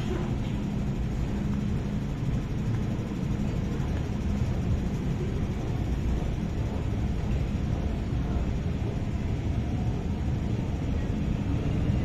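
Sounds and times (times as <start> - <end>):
train rumbling along platform: 0.0 - 12.0.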